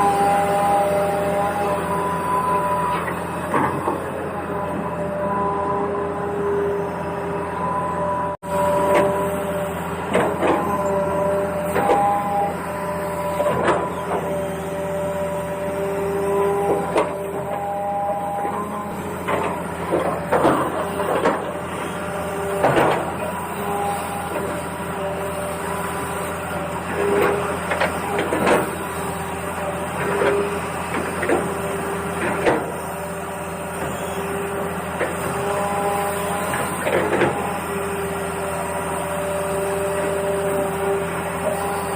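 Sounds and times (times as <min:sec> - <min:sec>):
small electric motors whining: 0:00.0 - 0:41.9.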